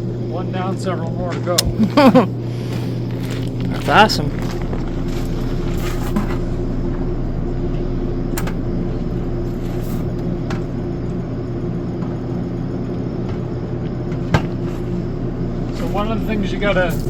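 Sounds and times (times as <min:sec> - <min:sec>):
dehumidifier and fans humming: 0:00.0 - 0:17.0.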